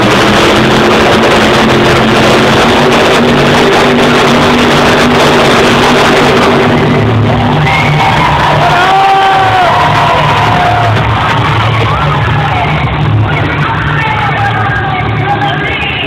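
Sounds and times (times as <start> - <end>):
truck engine at high revs: 0.0 - 15.8.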